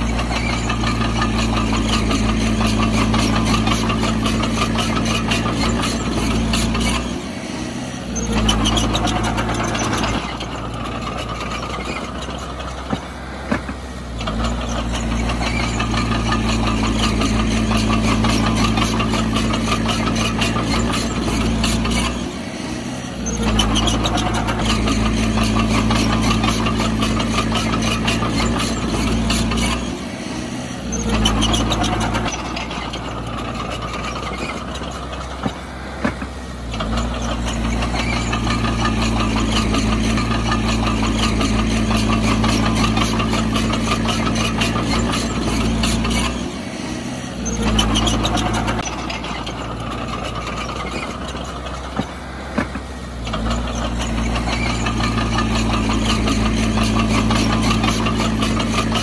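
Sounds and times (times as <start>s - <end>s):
rattly diesel engine: 0.0s - 59.0s.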